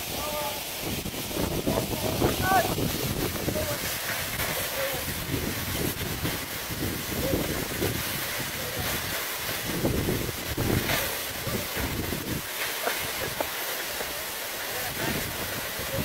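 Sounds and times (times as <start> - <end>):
wind buffeting microphone: 0.0 - 14.2, 14.8 - 16.0
waterfall roaring: 0.0 - 16.0.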